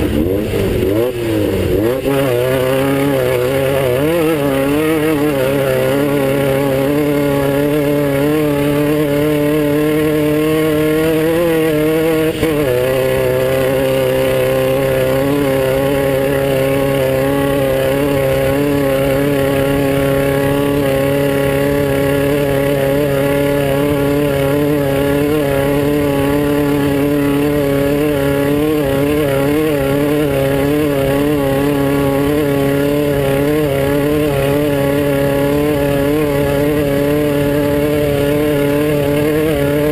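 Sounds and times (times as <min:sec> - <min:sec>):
engine running at high revs: 0:00.0 - 0:39.9.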